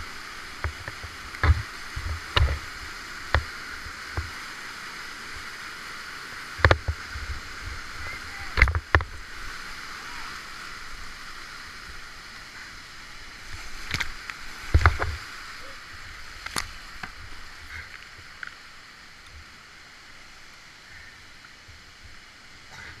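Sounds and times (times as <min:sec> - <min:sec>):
whitewater rapids rushing: 0:00.0 - 0:23.0.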